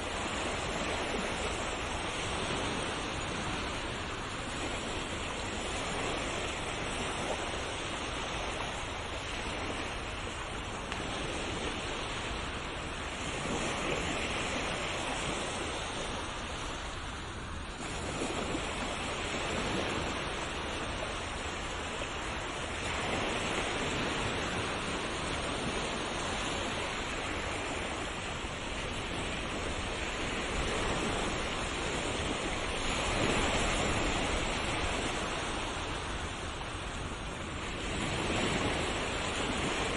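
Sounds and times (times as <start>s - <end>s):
sea waves breaking ashore: 0.0s - 39.9s.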